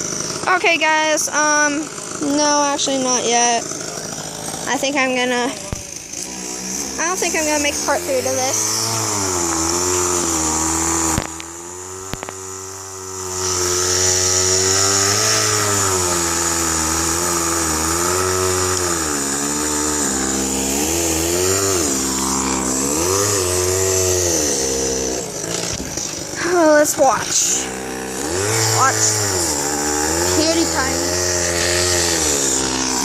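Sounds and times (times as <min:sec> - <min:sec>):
engine revving unevenly: 0:00.0 - 0:33.0.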